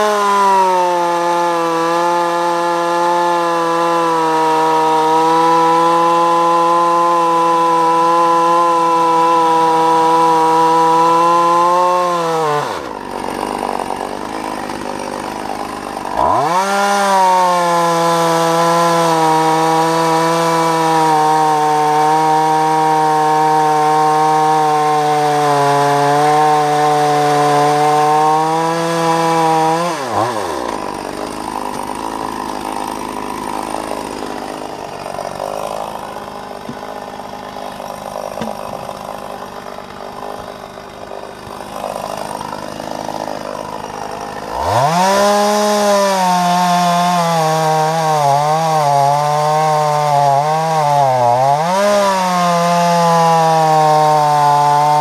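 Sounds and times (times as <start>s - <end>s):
chainsaw cutting a log: 0.0s - 55.0s.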